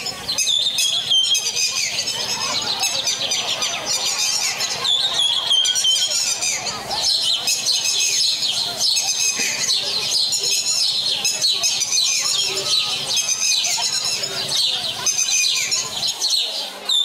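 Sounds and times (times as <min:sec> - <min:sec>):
recorded songbirds chirping: 0:00.0 - 0:17.0.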